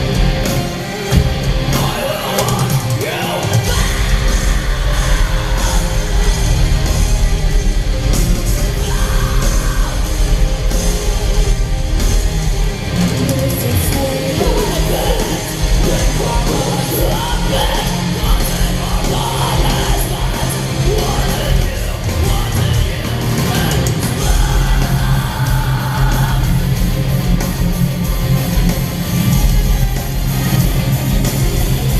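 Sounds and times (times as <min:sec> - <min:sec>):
distorted guitars: 0:00.0 - 0:31.9
heavy drums: 0:00.0 - 0:31.9
vocals: 0:00.0 - 0:31.9.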